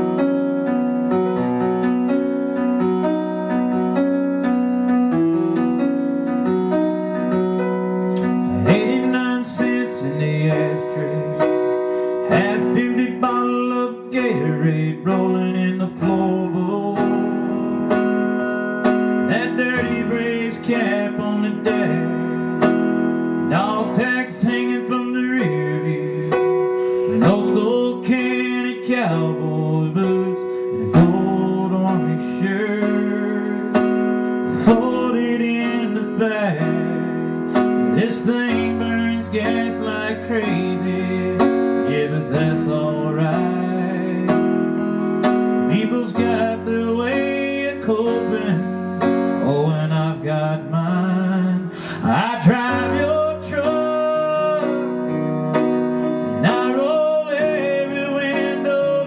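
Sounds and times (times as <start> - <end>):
electronic keyboard chords: 0.0 - 59.0.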